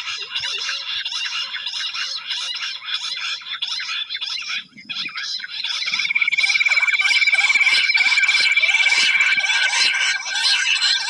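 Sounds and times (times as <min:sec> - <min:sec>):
quail calls: 0:00.0 - 0:11.0.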